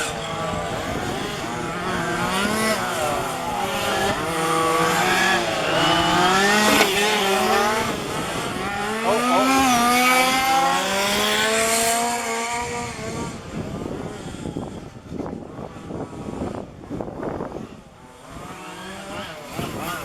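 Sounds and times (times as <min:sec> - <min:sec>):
distant rc cars on track: 0:00.0 - 0:20.0
rc car engine at high revs: 0:00.0 - 0:20.0.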